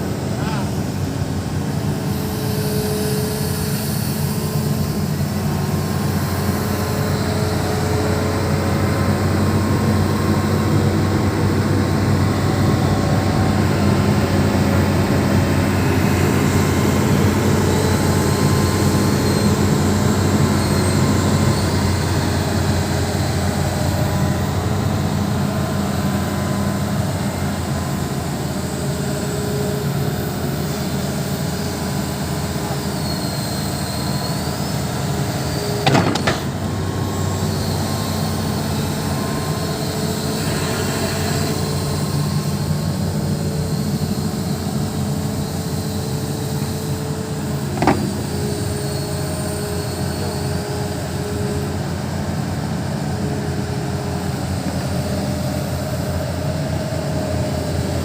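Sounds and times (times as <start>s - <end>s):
excavator diesel engine drone: 0.0s - 58.0s.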